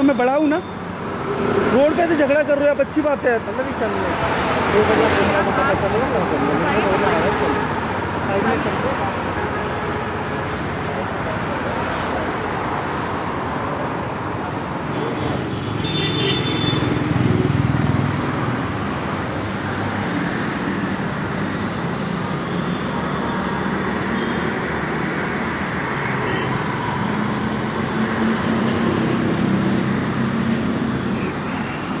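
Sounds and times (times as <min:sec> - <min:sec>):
city road traffic: 0:00.0 - 0:32.0.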